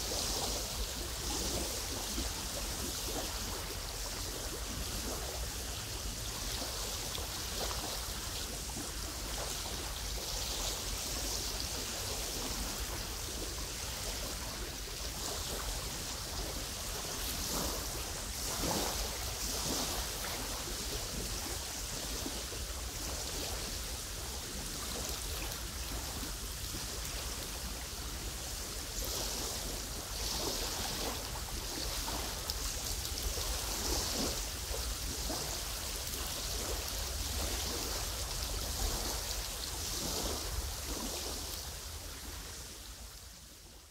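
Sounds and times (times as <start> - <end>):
small waves lapping: 0.0 - 43.9
wind rumble and hiss: 0.0 - 43.9.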